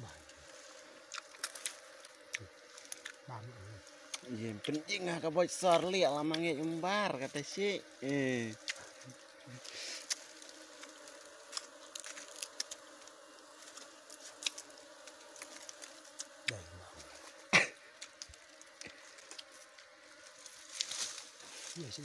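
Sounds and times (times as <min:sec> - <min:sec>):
bees buzzing: 0:00.0 - 0:22.0
crackles of leaves and twigs: 0:00.0 - 0:22.0.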